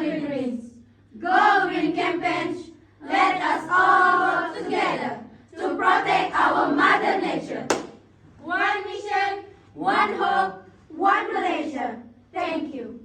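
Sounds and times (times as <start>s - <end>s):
young voices chanting in unison: 0.0s - 13.0s.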